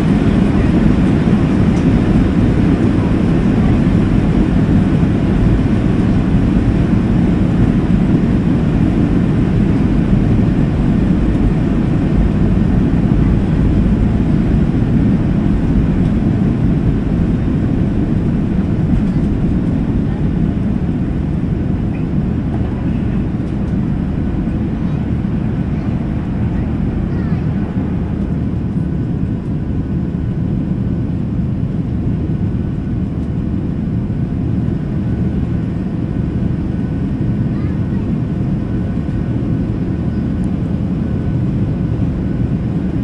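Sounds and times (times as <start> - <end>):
jet engines at takeoff thrust: 0.0 - 43.0
low rumble of wheels on runway: 0.0 - 43.0.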